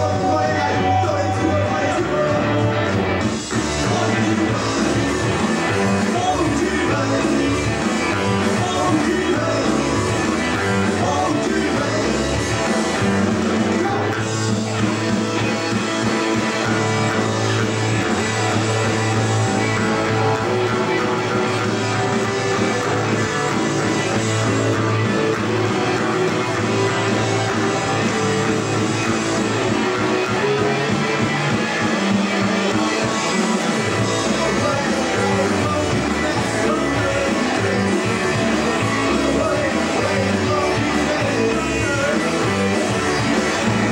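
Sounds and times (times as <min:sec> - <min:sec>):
live rock band playing: 0:00.0 - 0:43.9
singer's voice: 0:00.0 - 0:43.9.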